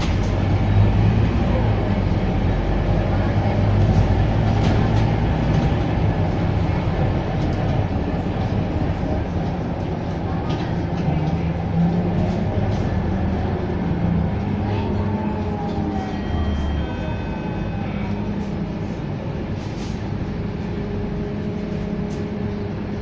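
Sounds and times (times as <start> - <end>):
bus diesel engine running: 0.0 - 23.0
road noise: 0.0 - 23.0.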